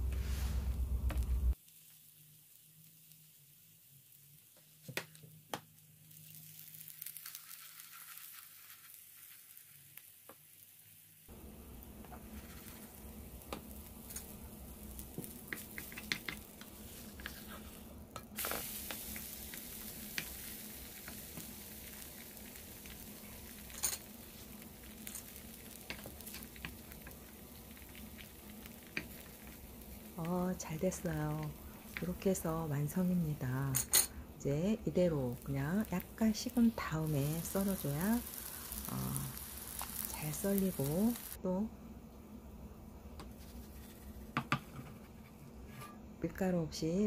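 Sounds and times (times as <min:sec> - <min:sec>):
pancake sizzling in oil: 0:01.5 - 0:41.4.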